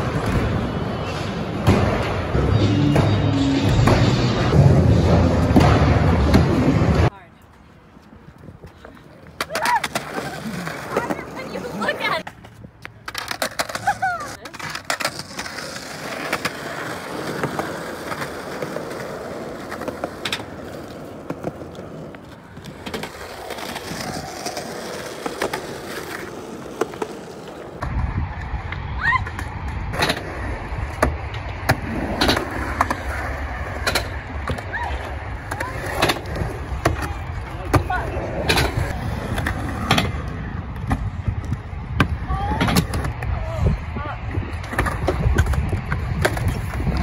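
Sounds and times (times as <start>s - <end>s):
skateboard wheels rolling on concrete: 0.0s - 47.0s.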